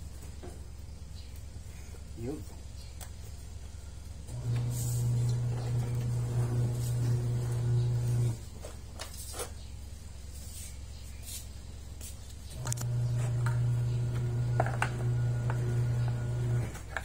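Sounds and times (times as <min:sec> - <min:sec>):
low electric hum: 0:00.0 - 0:17.0.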